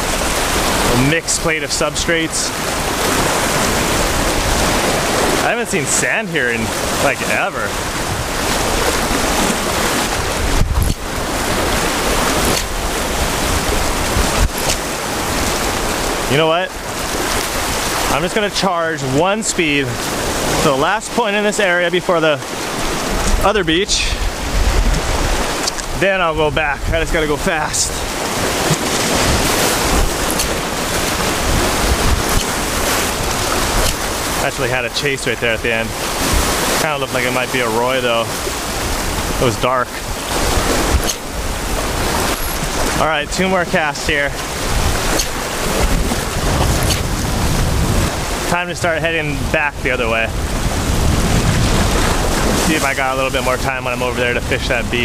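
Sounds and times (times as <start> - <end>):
wind on microphone: 0.0 - 18.5, 22.4 - 55.0
surf washing against rocks: 0.0 - 55.0.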